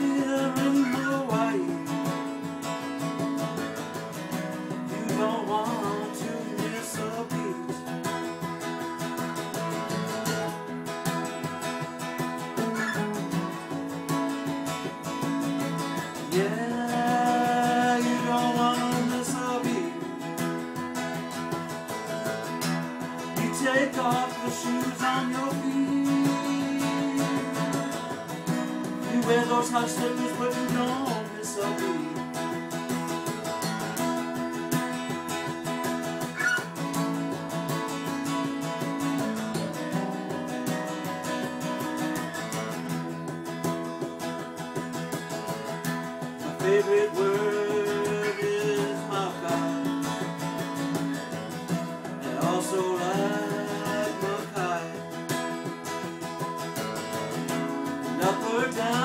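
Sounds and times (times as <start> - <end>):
acoustic guitars strummed: 0.0 - 59.0.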